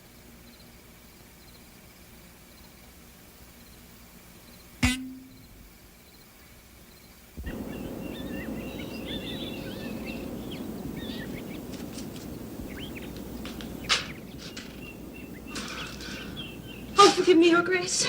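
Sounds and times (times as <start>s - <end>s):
outdoor ambience hiss: 0.0s - 18.0s
small birds chirping: 2.5s - 18.0s.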